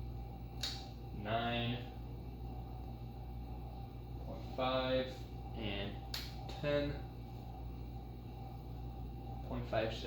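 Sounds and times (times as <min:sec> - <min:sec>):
ceiling fan motor humming: 0:00.0 - 0:10.0.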